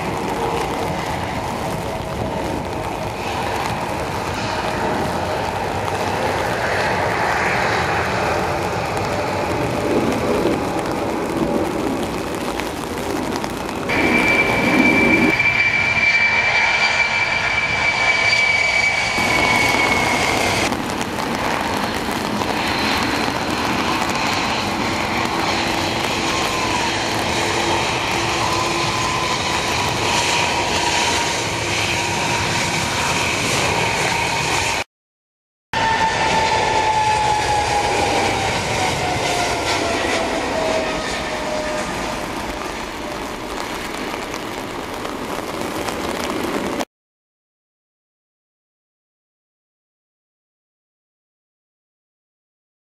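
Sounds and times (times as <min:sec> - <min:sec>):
rain: 0:00.0 - 0:15.7, 0:19.2 - 0:34.8, 0:35.8 - 0:46.9
jet engines running: 0:00.0 - 0:34.9, 0:35.8 - 0:46.9.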